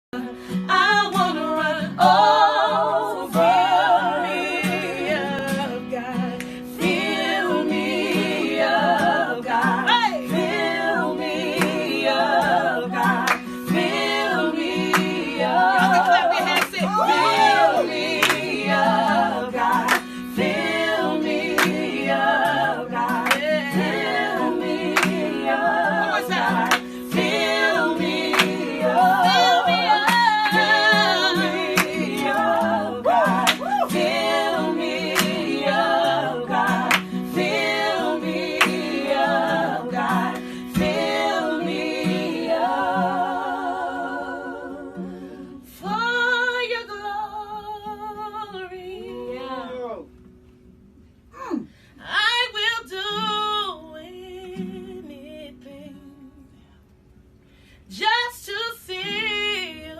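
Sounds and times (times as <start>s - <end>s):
gospel singing with vibrato: 0.2s - 50.1s.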